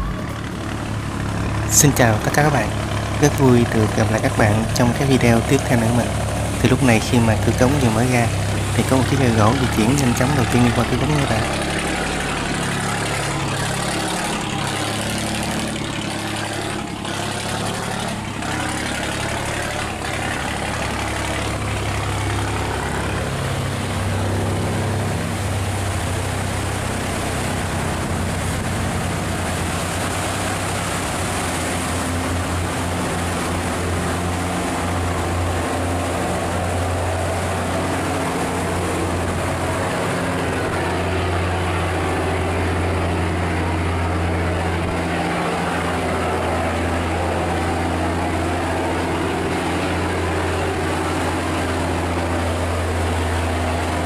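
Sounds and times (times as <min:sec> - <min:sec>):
boat diesel engines running: 0:00.0 - 0:54.0
water churning and rushing: 0:00.0 - 0:54.0.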